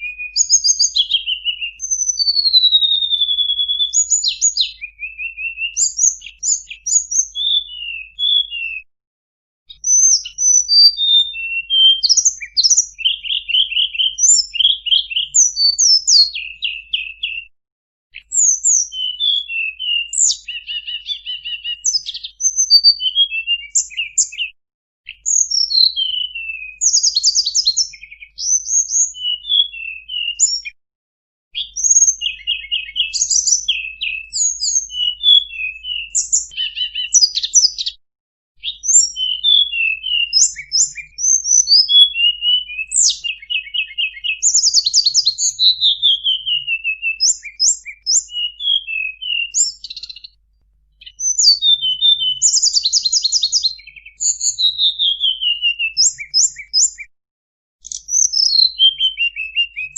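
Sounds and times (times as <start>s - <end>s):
songbird singing: 0.0s - 8.8s, 9.7s - 17.5s, 18.2s - 30.8s, 31.6s - 38.0s, 38.6s - 50.4s, 51.0s - 57.1s, 57.8s - 59.9s.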